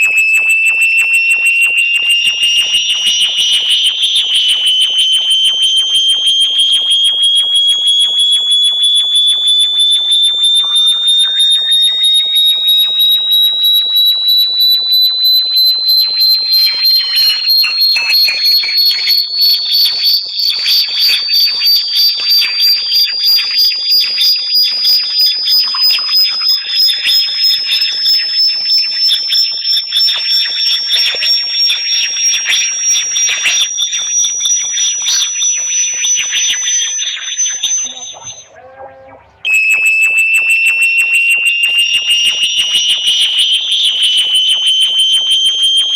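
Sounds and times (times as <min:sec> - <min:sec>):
high-pitched electronic whistle: 0:00.0 - 0:45.9.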